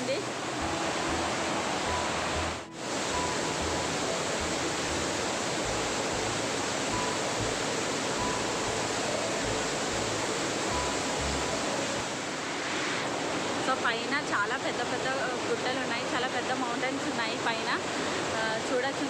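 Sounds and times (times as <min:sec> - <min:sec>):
water rushing over waterfall: 0:00.0 - 0:19.0.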